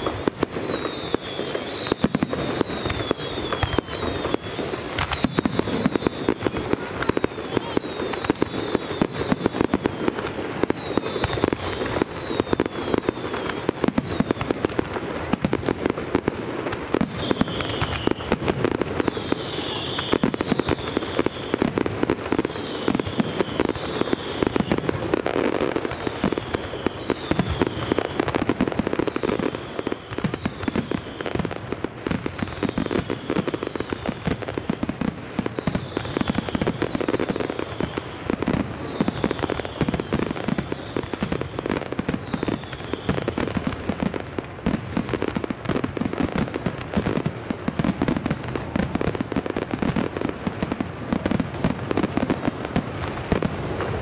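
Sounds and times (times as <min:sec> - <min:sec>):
falling firework whistle: 0:00.0 - 0:54.0
fireworks bangs and crackling: 0:00.0 - 0:54.0.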